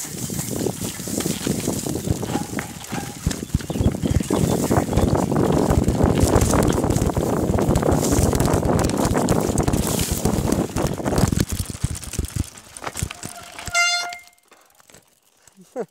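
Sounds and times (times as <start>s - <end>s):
wind buffeting microphone: 0.0s - 13.8s
mountain bike rattling on trail: 0.0s - 15.9s.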